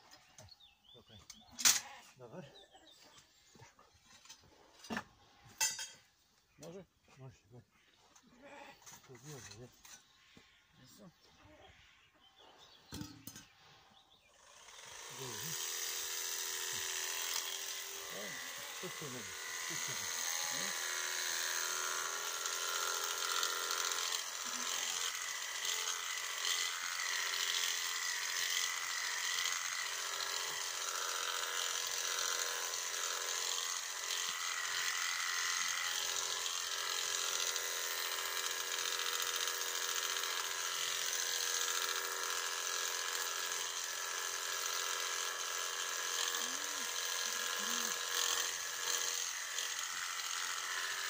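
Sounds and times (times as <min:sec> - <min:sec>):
electric shears motor buzzing: 0:00.0 - 0:06.8, 0:07.4 - 0:51.0.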